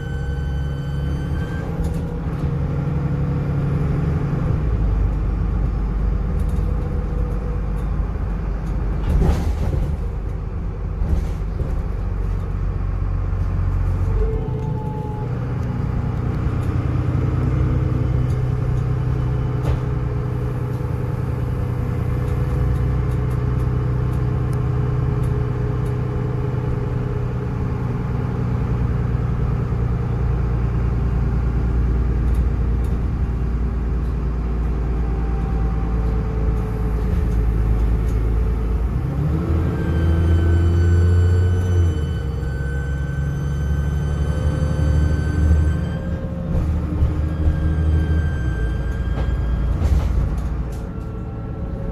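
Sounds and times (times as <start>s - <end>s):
bus diesel engine rumble: 0.0s - 51.9s.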